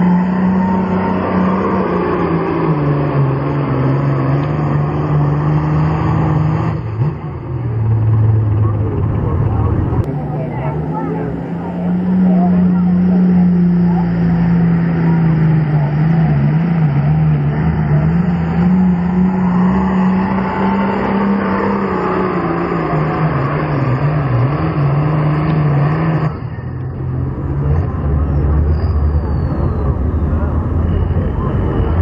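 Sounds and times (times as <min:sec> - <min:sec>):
diesel tractor engine at full throttle: 0:00.0 - 0:32.0.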